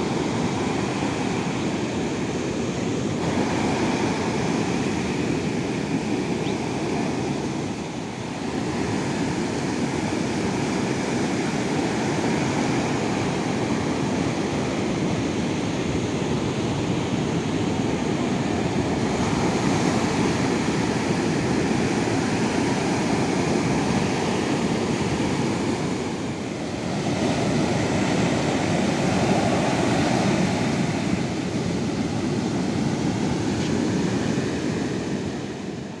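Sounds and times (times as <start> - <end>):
sea surf washing ashore: 0.0 - 36.0.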